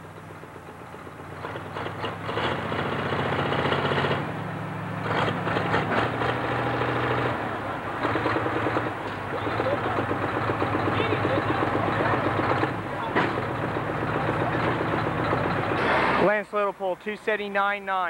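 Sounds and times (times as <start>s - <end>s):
tractor engine revving: 0.0s - 16.5s.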